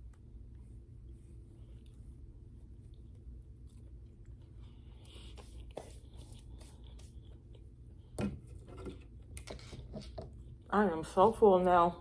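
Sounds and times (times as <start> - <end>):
soft chewing: 0.0 - 10.7
low steady hum: 0.0 - 12.0.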